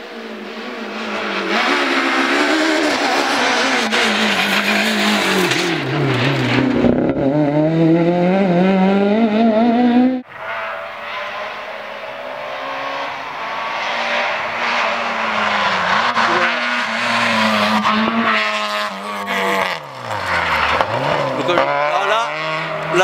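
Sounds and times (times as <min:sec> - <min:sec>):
rally car engine at high revs: 0:00.0 - 0:23.0.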